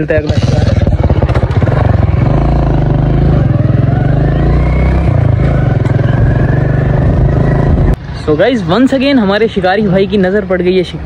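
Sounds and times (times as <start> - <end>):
small motorcycle engine running: 0.0 - 9.2.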